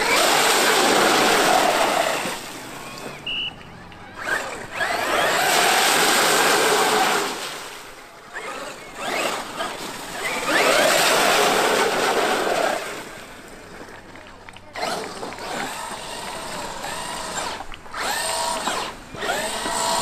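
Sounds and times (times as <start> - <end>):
electric motor whining: 0.0 - 7.4, 8.3 - 13.2, 14.6 - 20.0.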